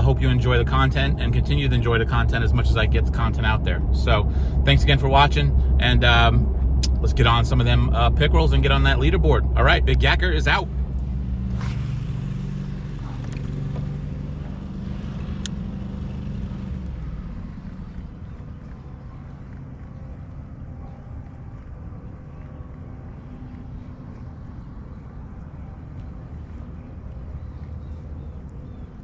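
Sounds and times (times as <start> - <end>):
low rumble: 0.0 - 29.0
low steady engine hum: 0.0 - 29.0.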